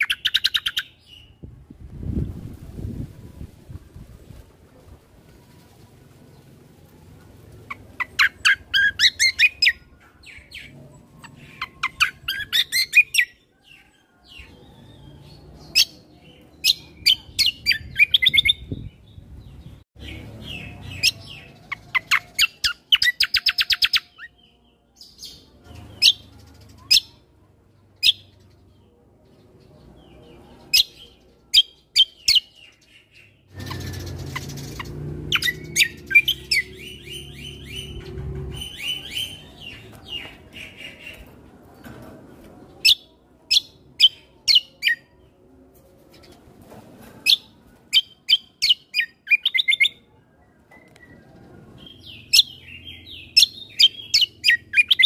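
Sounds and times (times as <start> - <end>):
bird chirping and trilling: 0.0 - 2.3, 7.6 - 28.9, 30.0 - 41.3, 42.8 - 45.3, 47.2 - 50.1, 50.7 - 55.0.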